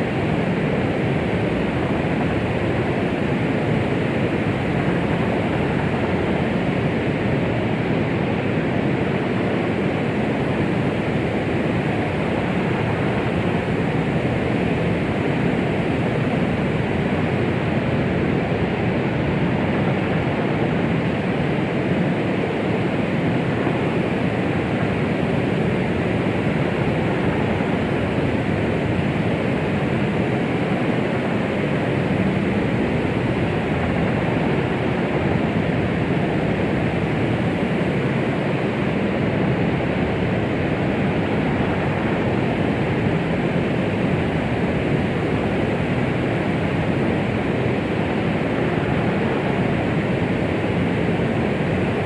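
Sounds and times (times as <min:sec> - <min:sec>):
soft rushing white noise: 0:00.0 - 0:52.0.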